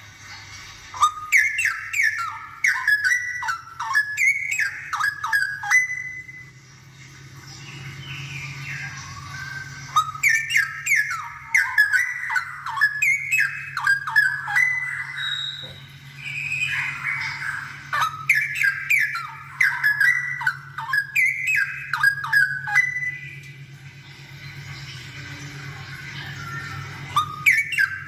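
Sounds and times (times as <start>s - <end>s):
steady low hum: 0.0s - 28.0s
bird singing whistled notes: 0.9s - 6.6s, 7.5s - 23.7s, 25.3s - 28.0s.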